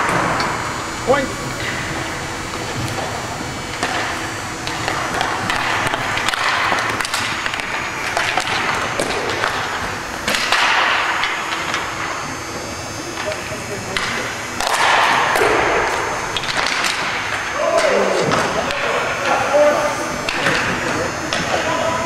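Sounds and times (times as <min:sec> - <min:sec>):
hockey sticks and puck clacking: 0:01.6 - 0:12.2, 0:13.1 - 0:22.0.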